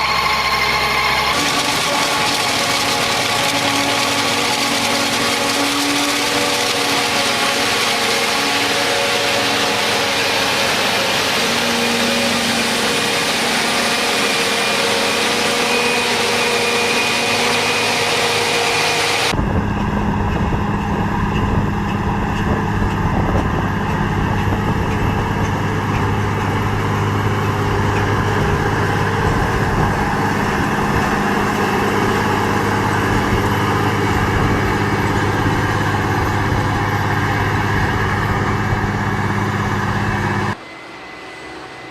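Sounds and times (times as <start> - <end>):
high-pitched mechanical whir: 0.0 - 41.9
low engine drone: 0.0 - 41.9.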